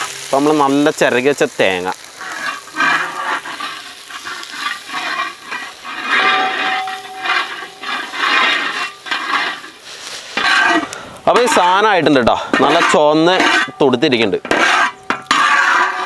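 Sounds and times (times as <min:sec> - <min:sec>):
metal spatula scraping a pan: 0:02.1 - 0:16.0.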